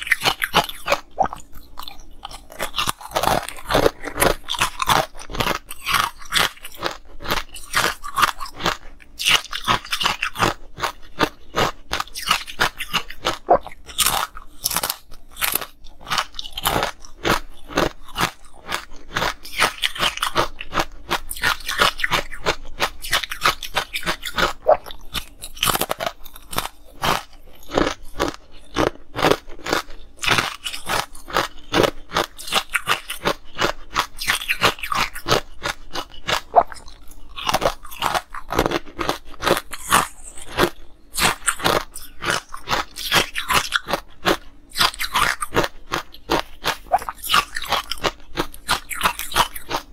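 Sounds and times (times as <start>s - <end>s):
person chewing crunchy ice: 0.0s - 49.9s.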